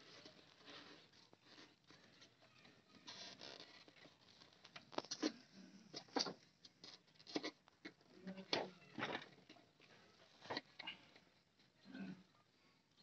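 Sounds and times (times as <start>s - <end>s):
rustling handling noise: 0.0s - 11.7s.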